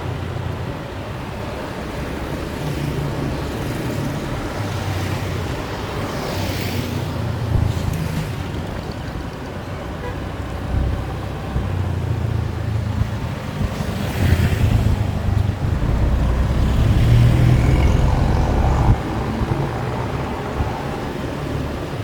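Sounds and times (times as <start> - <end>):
wind buffeting microphone: 0.8 - 22.0
motorbike engine rumbling: 3.0 - 21.6.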